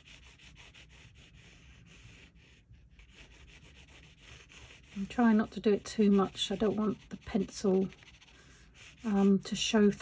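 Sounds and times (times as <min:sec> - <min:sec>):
pencil scratching on paper: 0:00.0 - 0:10.0.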